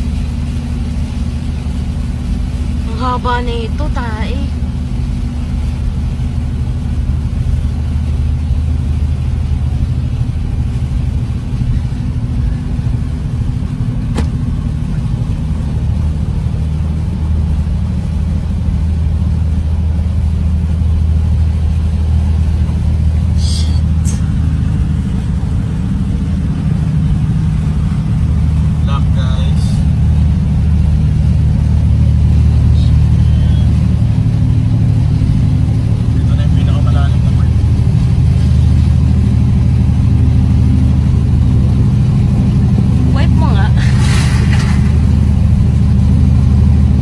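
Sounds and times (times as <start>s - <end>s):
vehicle engine drone: 0.0s - 47.0s.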